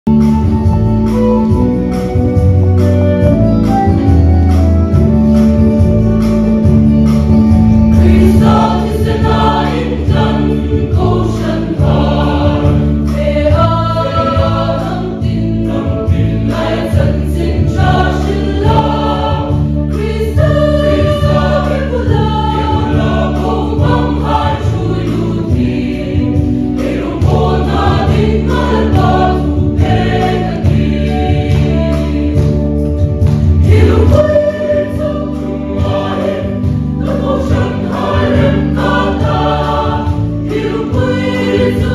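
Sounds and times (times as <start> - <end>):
instrumental accompaniment: 0.1 - 41.9
choir singing a hymn: 7.5 - 41.9.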